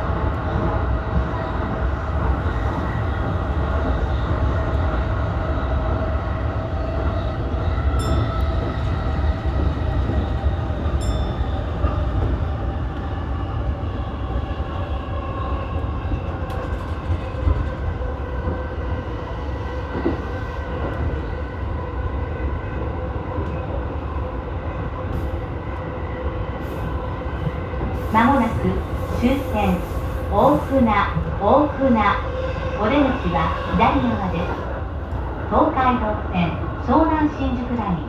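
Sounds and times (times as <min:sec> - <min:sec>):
rumble of wheels on rail: 0:00.0 - 0:38.0.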